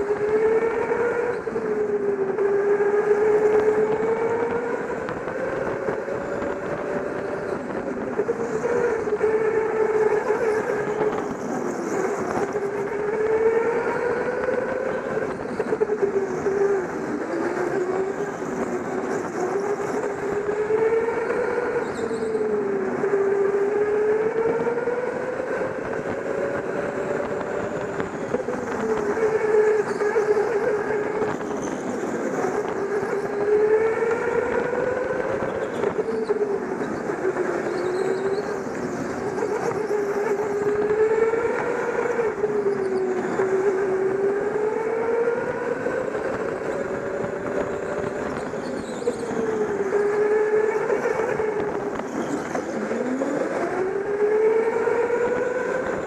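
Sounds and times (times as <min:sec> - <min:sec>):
go-kart motor whining: 0:00.0 - 0:56.0.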